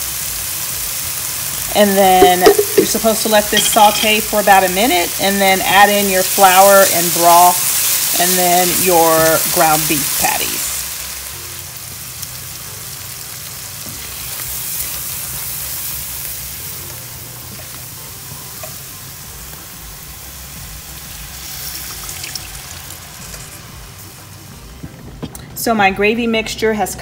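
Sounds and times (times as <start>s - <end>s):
mushrooms and onions sizzling: 0.0s - 25.8s.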